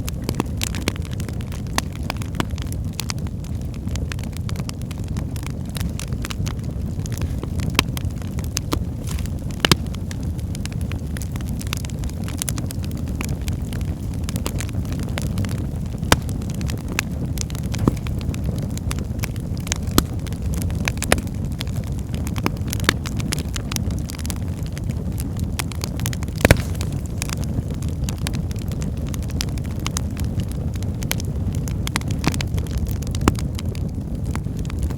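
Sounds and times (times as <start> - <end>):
fire crackling and popping: 0.0 - 34.9
fire flames rumbling: 0.0 - 34.9.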